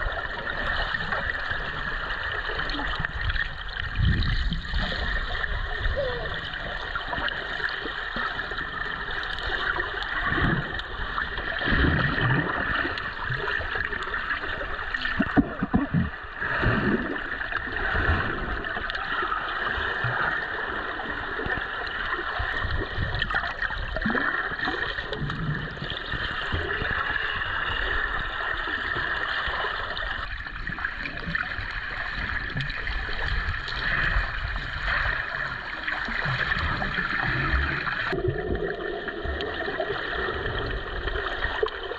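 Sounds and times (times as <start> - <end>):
muffled water sloshing: 0.0 - 41.9.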